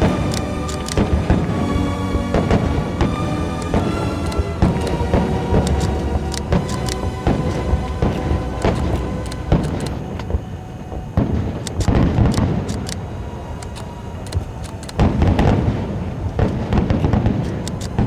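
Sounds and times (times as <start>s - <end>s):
fireworks booming: 0.0s - 13.4s, 14.4s - 18.0s
fireworks crackling pops: 0.0s - 18.0s.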